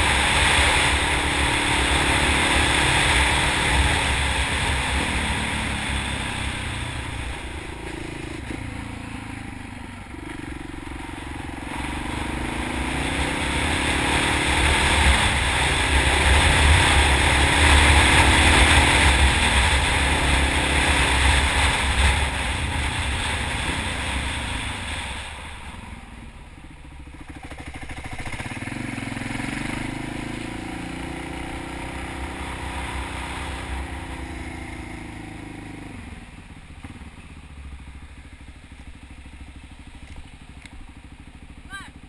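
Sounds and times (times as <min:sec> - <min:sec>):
motorcycle engine running hard: 0:00.0 - 0:42.0.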